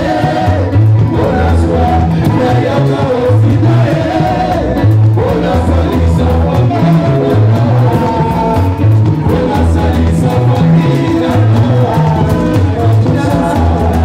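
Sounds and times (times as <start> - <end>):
electric guitar: 0.0 - 14.0
male lead singer: 0.0 - 14.0
steady drum beat: 0.0 - 14.0
walking bass line: 0.0 - 14.0.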